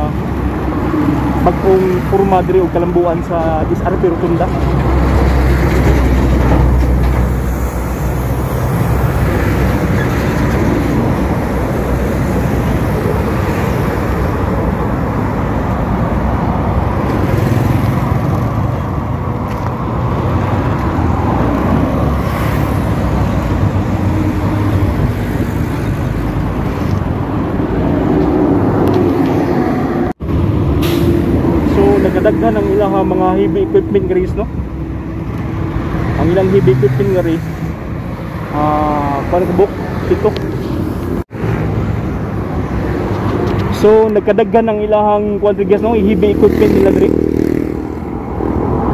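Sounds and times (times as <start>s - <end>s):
wind rushing over microphone: 0.0s - 44.5s, 45.1s - 48.9s
road and traffic noise: 0.0s - 48.9s.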